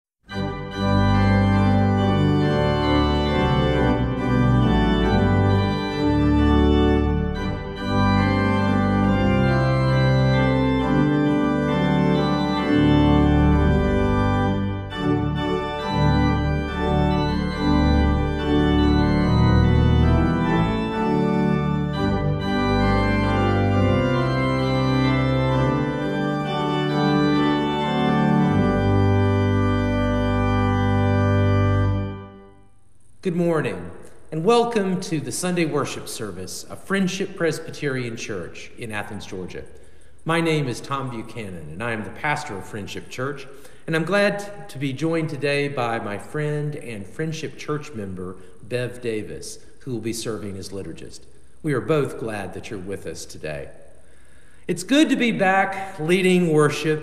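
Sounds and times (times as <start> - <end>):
organ playing sustained chords: 0.3 - 57.0.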